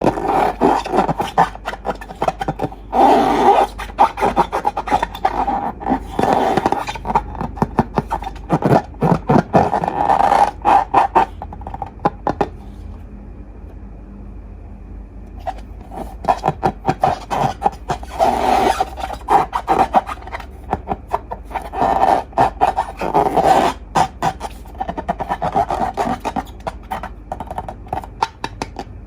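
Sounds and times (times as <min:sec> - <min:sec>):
scraping: 0:00.0 - 0:13.0, 0:15.4 - 0:29.0.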